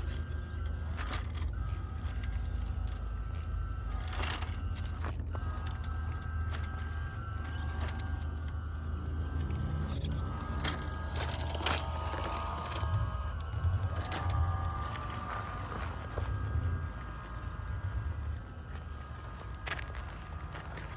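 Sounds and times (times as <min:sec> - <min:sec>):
electric motor and gearbox whining: 0:00.0 - 0:20.9
low hum: 0:00.0 - 0:20.9.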